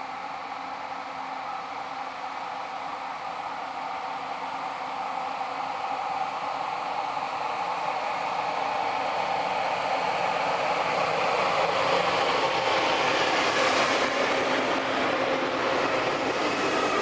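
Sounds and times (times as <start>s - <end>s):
train rolling past: 0.1s - 17.0s.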